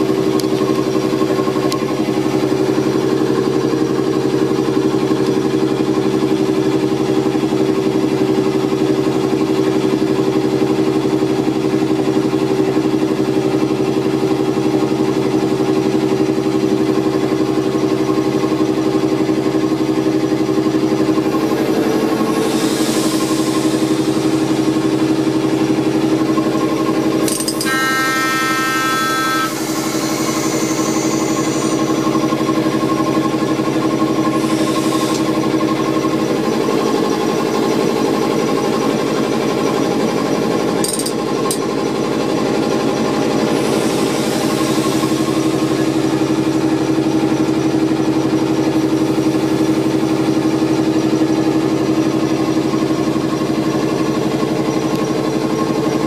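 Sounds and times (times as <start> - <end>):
train machinery humming and pounding: 0.0 - 56.0.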